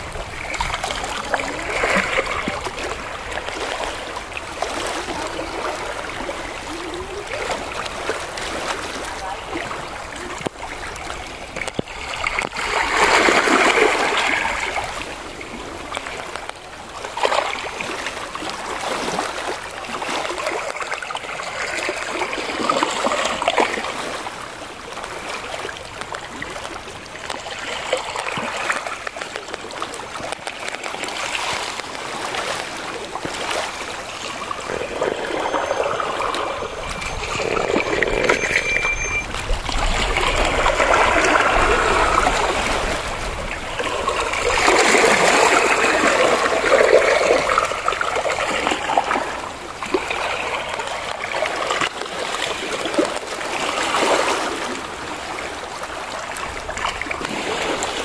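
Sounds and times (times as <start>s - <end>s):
small waves lapping over rocks: 0.0s - 58.0s.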